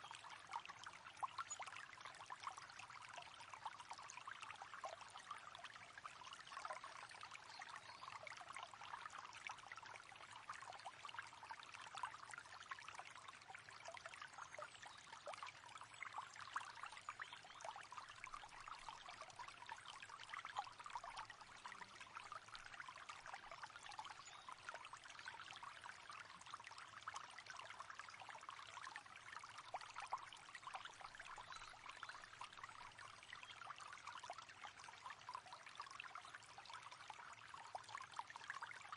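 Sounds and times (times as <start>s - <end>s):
faint river babbling over stones: 0.0s - 38.9s.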